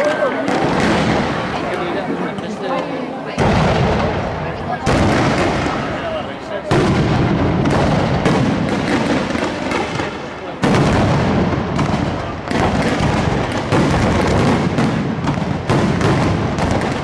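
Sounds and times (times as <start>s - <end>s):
firework crackling: 0.0s - 17.0s
firework booms with rumbling tail: 0.5s - 1.7s, 3.4s - 17.0s.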